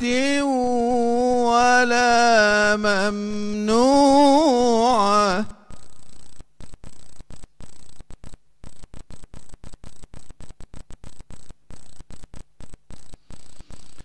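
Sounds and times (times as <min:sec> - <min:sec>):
stuttering electrical hum and hiss: 0:00.0 - 0:14.0.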